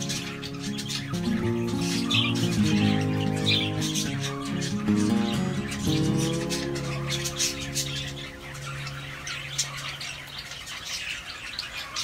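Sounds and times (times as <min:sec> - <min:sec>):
sustained music chord: 0:00.0 - 0:10.4
parrot chicks chirping and squawking: 0:00.0 - 0:12.0.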